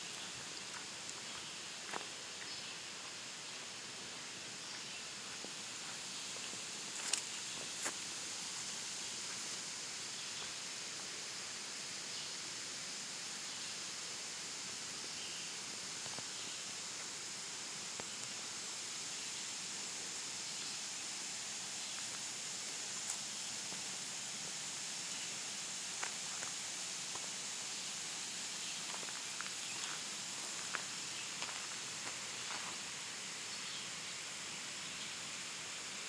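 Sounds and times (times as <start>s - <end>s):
steady outdoor hiss: 0.0s - 36.0s.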